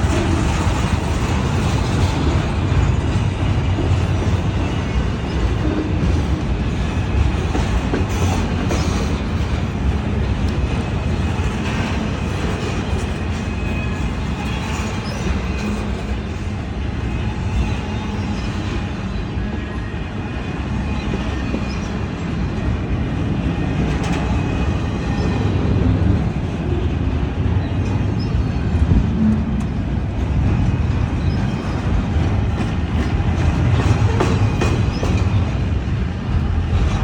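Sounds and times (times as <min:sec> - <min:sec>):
freight train rumbling on rails: 0:00.0 - 0:37.0
train clicks and clanks: 0:00.0 - 0:37.0.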